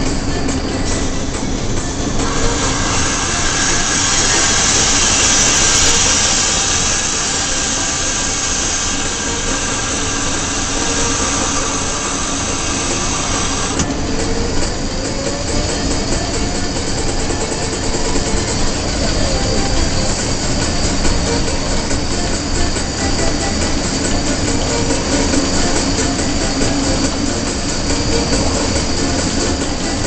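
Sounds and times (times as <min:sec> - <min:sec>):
faint traction equipment hum: 0:00.0 - 0:30.0
rising whine: 0:00.0 - 0:30.0
wheels rumbling on rail: 0:00.0 - 0:30.0.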